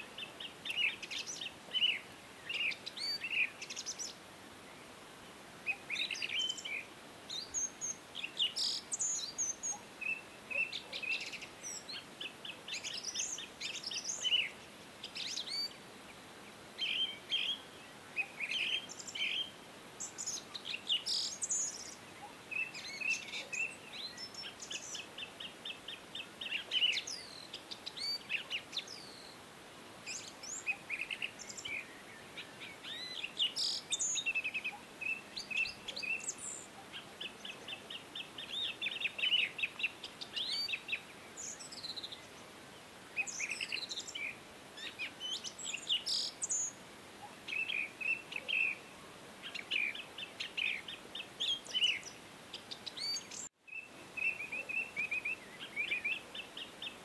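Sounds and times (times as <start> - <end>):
songbirds chirping and singing: 0.0 - 5.0, 5.7 - 29.5, 30.1 - 57.0
faint steady hiss: 0.0 - 57.0.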